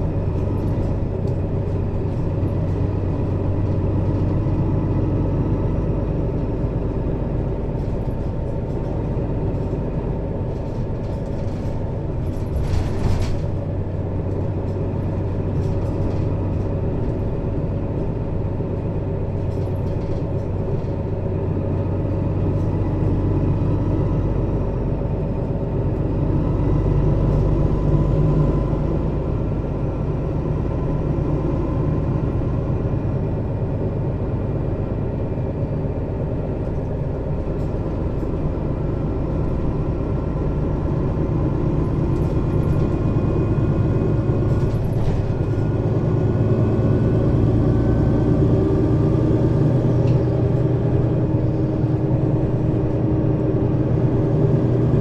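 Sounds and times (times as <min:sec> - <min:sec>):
bus diesel engine pulling: 0:00.0 - 0:55.0.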